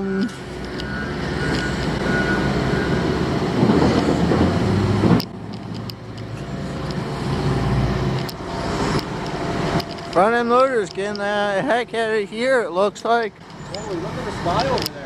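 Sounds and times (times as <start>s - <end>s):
construction machinery engine rumbling: 0.0s - 15.0s.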